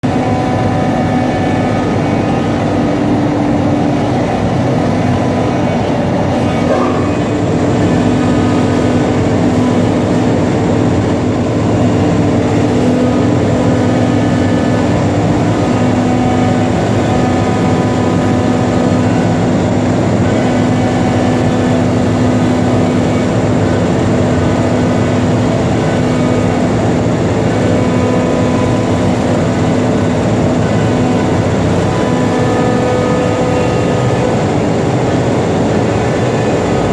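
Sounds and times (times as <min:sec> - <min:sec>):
cnc router running: 0:00.0 - 0:36.9.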